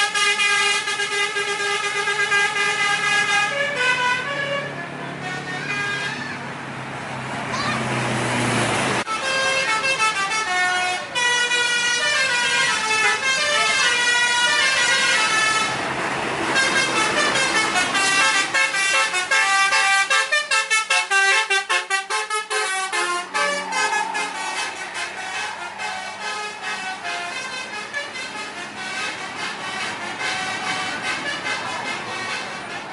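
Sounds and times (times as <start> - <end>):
multi-tone bus horn tune: 0.0 - 6.6, 9.0 - 32.9.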